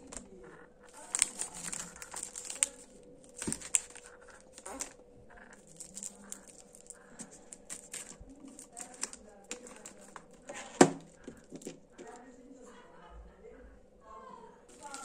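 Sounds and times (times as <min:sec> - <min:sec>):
plastic wrappers crinkling: 0:00.0 - 0:12.2, 0:14.7 - 0:15.0.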